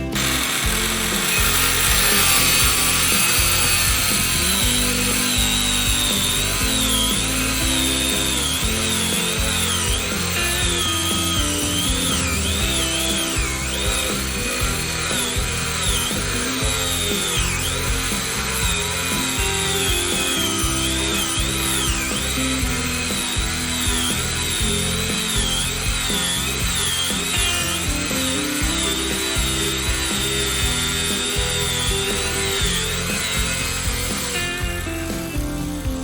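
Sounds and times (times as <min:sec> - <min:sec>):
angle grinder whining: 0:00.0 - 0:36.0
background music with a beat: 0:00.0 - 0:36.0.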